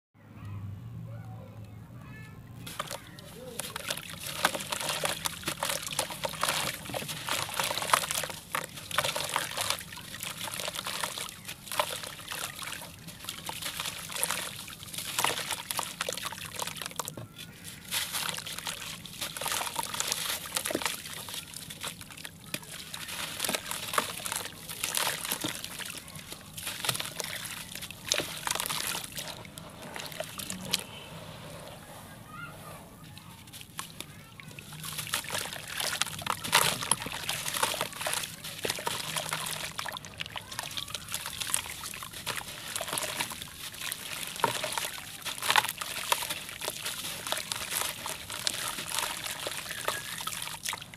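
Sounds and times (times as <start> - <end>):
gritty crackling of breaking cement: 2.6 - 31.0, 33.4 - 50.9
water sloshing and trickling: 2.6 - 50.9.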